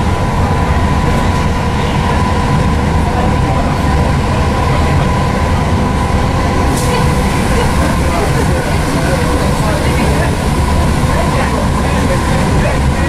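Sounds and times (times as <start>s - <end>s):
electric train whine: 0.0s - 13.0s
train wheels rumbling on rails: 0.0s - 13.0s.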